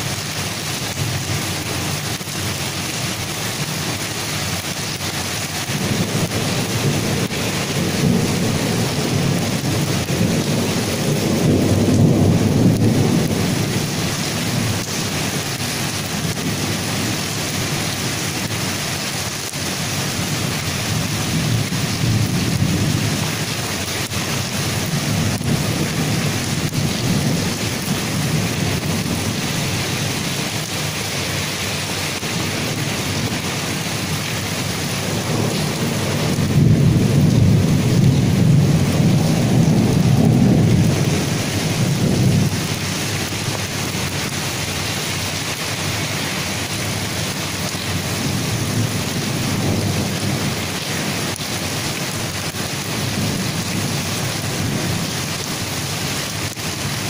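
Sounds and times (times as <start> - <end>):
heavy rain pouring: 0.0 - 57.0
low thunder rumbles: 0.8 - 57.0.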